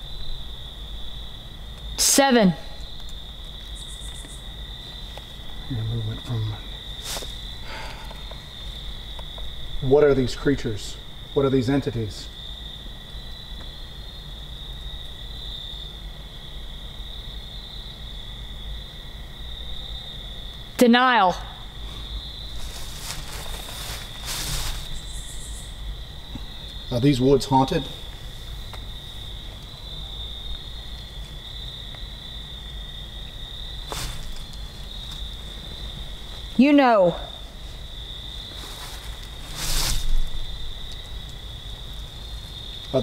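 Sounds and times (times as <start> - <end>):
crickets trilling: 0.0 - 43.0
insects chirping: 0.0 - 43.0.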